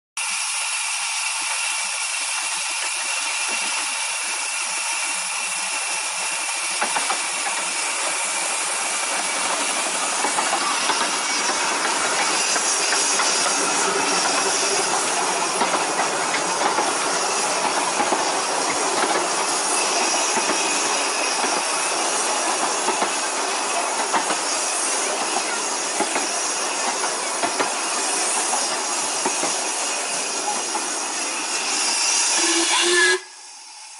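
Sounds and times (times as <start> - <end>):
hiss of steam: 0.2 - 33.9
steam locomotive passing: 0.2 - 33.9.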